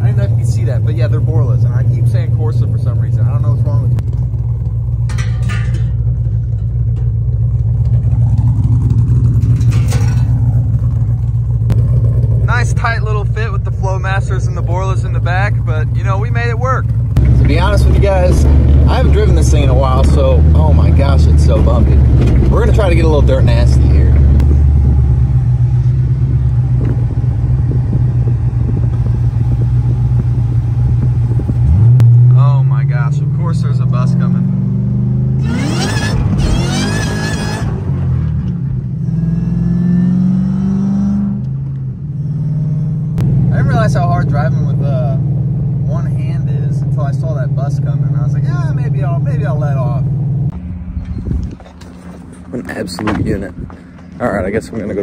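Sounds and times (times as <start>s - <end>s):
car engine idling: 0.0s - 36.8s, 41.4s - 55.0s.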